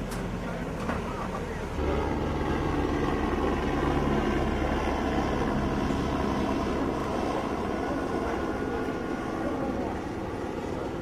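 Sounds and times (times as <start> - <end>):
noisy background: 0.0 - 11.0
vehicle engine running: 0.4 - 11.0.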